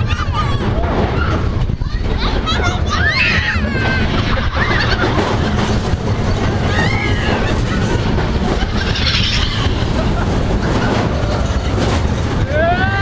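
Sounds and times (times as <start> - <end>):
roller coaster rumbling and rattling: 0.0 - 13.0.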